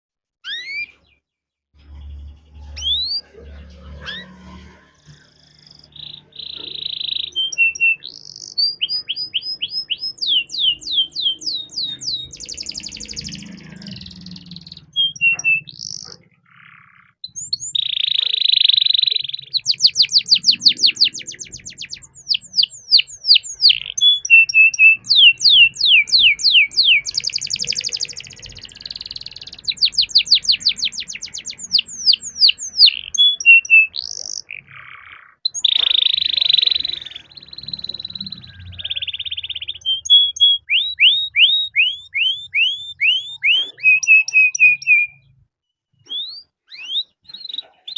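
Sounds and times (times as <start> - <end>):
canary singing: 0.4 - 1.2, 1.8 - 47.9.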